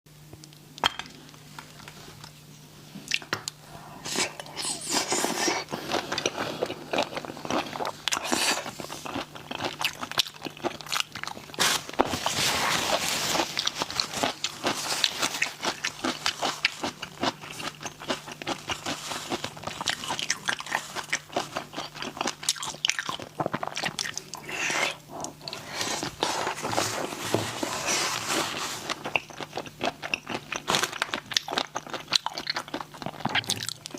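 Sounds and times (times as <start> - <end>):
faint steady hum: 0.1 - 33.9.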